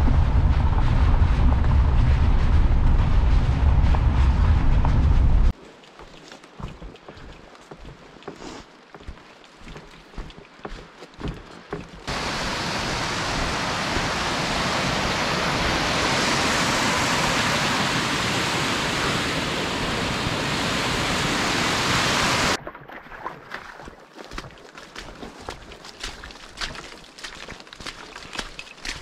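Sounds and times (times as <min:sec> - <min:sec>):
water rushing in creek: 0:05.5 - 0:29.0.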